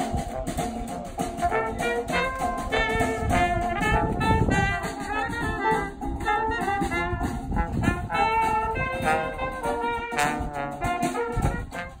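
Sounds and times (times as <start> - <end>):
brass band playing jazzy tune: 0.0 - 12.0.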